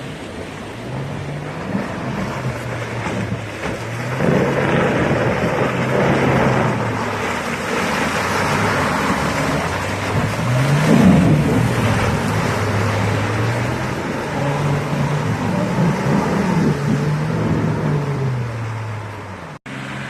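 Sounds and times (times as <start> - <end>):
off-road vehicle engine: 0.0 - 20.0
tyre and terrain driving noise: 0.0 - 20.0.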